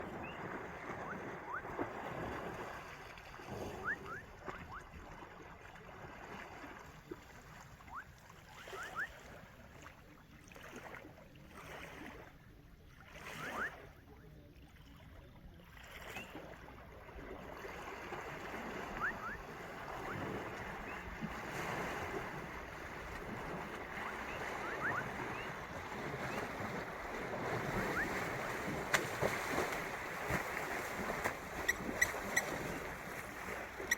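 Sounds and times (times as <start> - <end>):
water sloshing and splashing: 0.0 - 13.9, 14.6 - 33.9.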